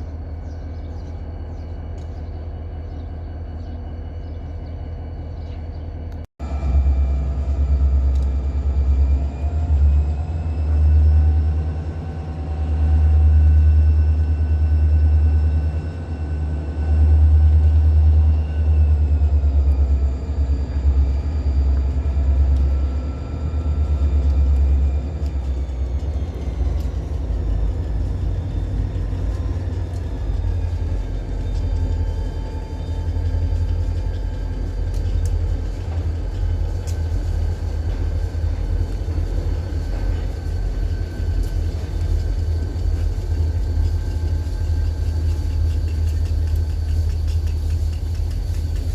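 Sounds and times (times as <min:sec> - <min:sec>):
diesel locomotive rumble: 0:00.0 - 0:48.9
locomotive engine whine: 0:00.0 - 0:48.9.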